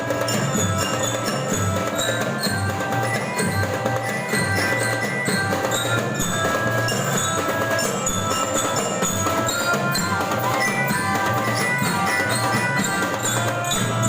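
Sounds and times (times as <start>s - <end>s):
glockenspiel bell notes: 0.0s - 14.0s
marching band playing: 0.0s - 14.0s
steady drumming: 0.0s - 14.0s.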